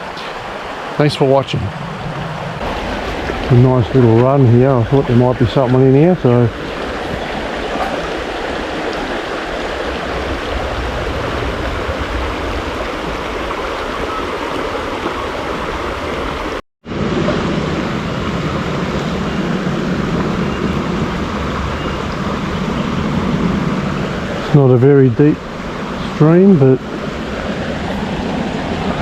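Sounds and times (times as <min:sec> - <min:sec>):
stream flowing over rocks: 0:00.0 - 0:01.6, 0:02.6 - 0:29.0.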